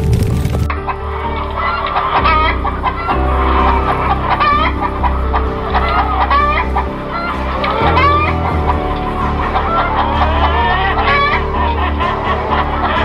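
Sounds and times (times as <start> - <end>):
background music with low bass: 0.0 - 13.0.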